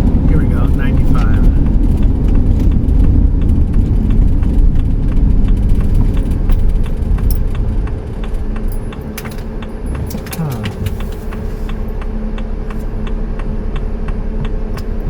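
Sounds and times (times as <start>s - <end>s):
light rattles and ticks: 0.0s - 15.0s
van engine and road rumble: 0.0s - 15.0s.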